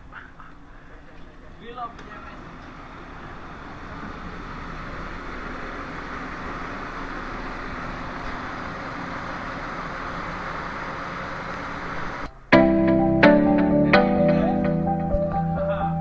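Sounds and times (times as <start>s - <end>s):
ship machinery droning: 0.0s - 16.0s.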